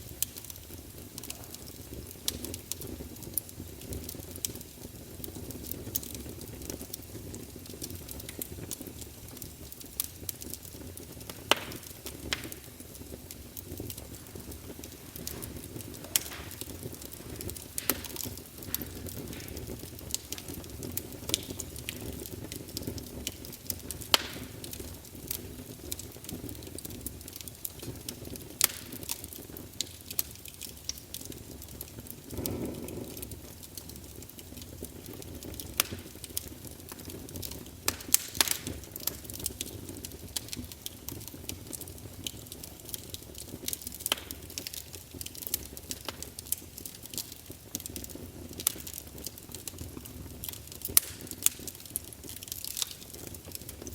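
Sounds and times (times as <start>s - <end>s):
low rumble of flames: 0.0s - 53.9s
wood fire crackling: 0.0s - 53.9s.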